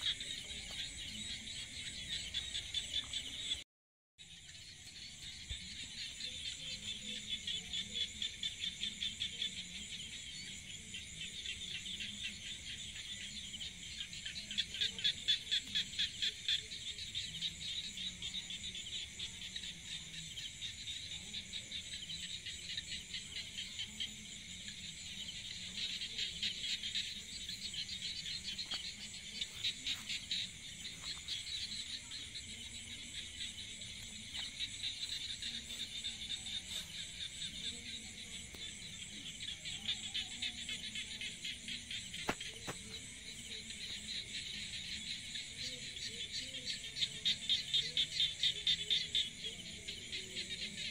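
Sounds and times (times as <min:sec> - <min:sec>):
insects trilling: 0:04.2 - 0:50.9.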